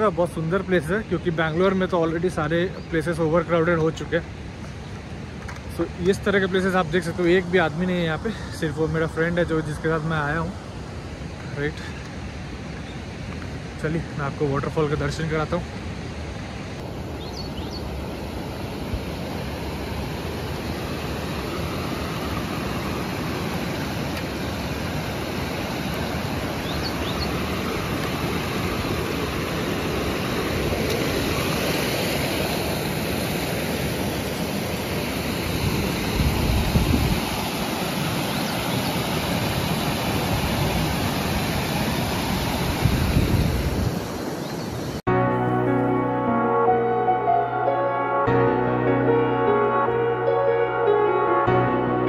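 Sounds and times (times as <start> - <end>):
water rushing over dam: 0.0 - 17.2, 17.9 - 45.0.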